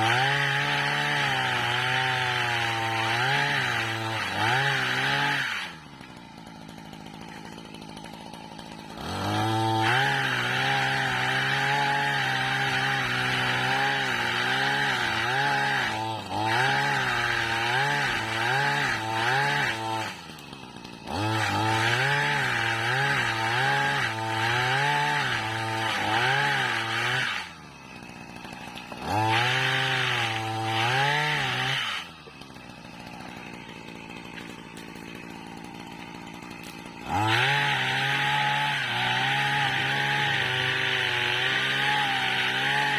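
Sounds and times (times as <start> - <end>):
small engine revving and idling: 0.0 - 42.9.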